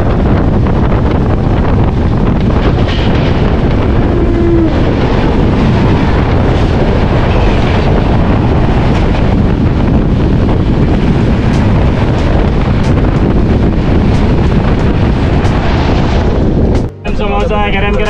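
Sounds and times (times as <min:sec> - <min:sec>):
passing train: 0:00.0 - 0:18.0
train running gear rumble: 0:00.0 - 0:18.0
wind buffeting microphone: 0:00.0 - 0:18.0.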